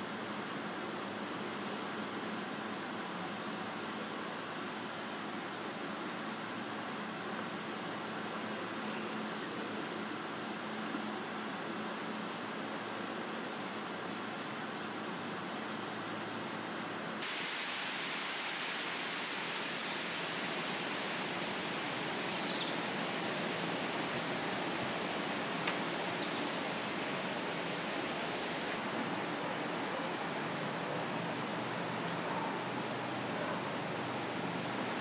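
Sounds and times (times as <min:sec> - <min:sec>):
background hiss: 0:00.0 - 0:35.0.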